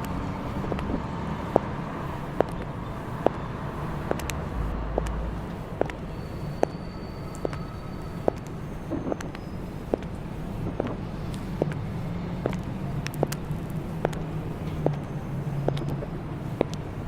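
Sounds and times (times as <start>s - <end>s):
high heels clicking: 0.0s - 7.6s, 8.2s - 16.9s
city traffic rumble: 0.0s - 17.0s.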